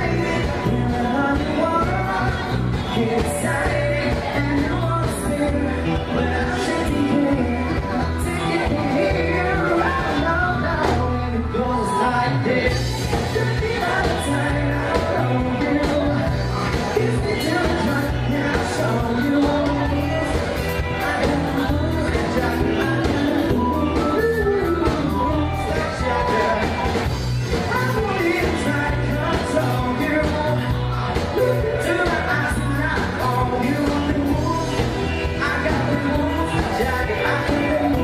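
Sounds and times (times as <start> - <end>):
bass guitar: 0.0 - 38.0
drums: 0.0 - 38.0
electric guitar: 0.0 - 38.0
person singing: 0.0 - 38.0.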